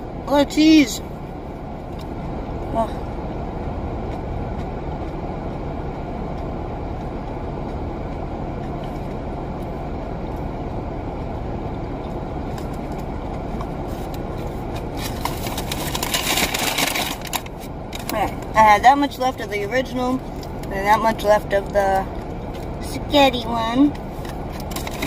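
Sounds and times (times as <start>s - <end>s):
air conditioning fan running: 0.0s - 25.0s
car engine idling: 0.0s - 25.0s.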